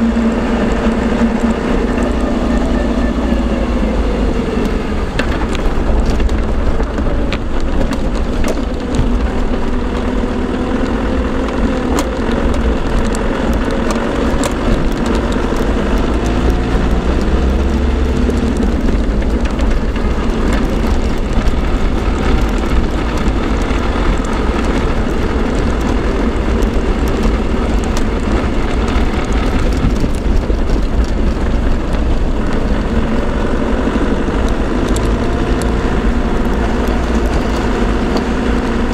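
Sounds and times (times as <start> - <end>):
engine and road rumble: 0.0 - 38.9
transfer case whining: 0.0 - 38.9
small rattles and ticks: 4.6 - 38.9.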